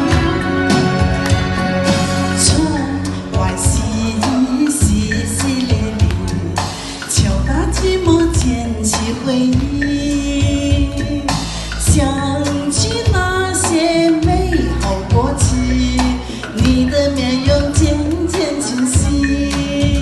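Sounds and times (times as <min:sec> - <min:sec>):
backing track with bass and drums: 0:00.0 - 0:20.0
woman singing pop song: 0:02.3 - 0:20.0.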